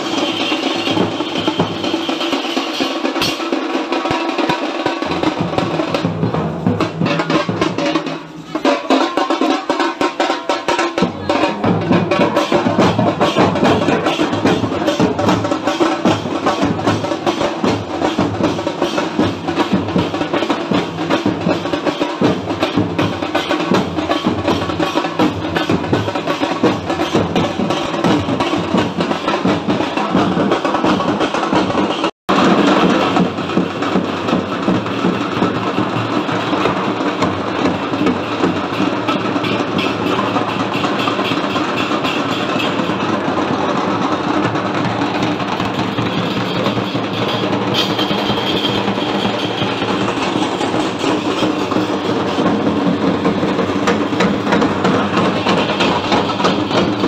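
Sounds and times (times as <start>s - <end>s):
fast dense drumming: 0.0s - 57.0s
deep drum beat: 3.0s - 57.0s.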